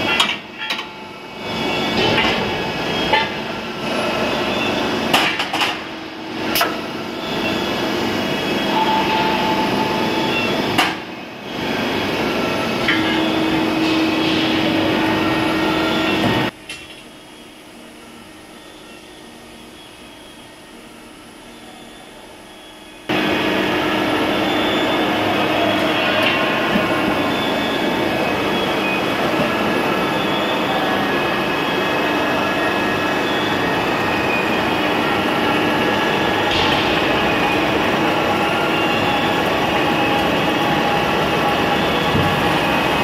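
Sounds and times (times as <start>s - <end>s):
machinery running: 0.0s - 16.6s, 19.8s - 43.0s.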